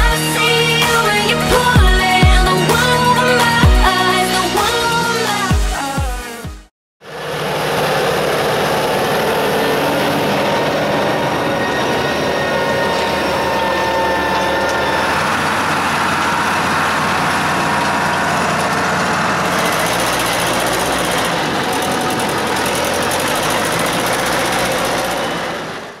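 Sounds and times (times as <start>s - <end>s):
diesel engine idling with knocking: 0.0s - 26.0s
diesel machinery running: 0.0s - 26.0s.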